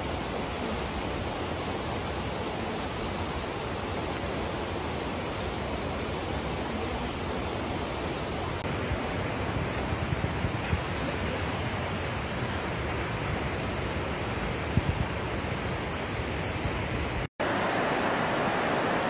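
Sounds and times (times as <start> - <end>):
flowing water: 0.0 - 19.0.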